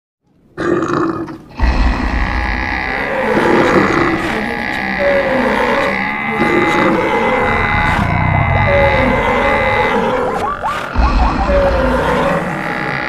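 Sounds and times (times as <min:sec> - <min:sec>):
animal calls: 0:01.5 - 0:13.0.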